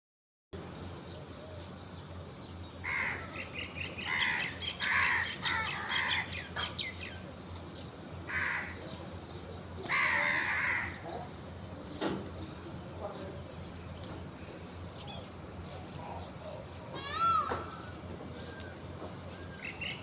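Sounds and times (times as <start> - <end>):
birds calling: 0.7 - 20.0.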